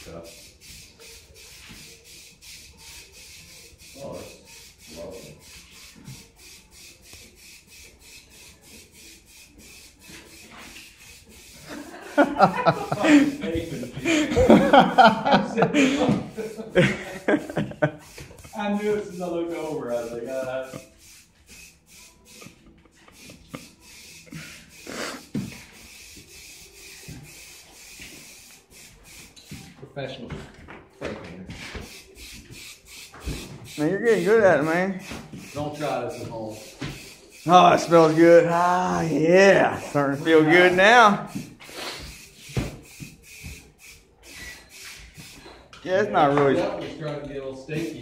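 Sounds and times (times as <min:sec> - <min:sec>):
spray paint can hissing: 0:00.0 - 0:15.3, 0:16.0 - 0:29.8, 0:31.8 - 0:46.4, 0:47.8 - 0:48.0.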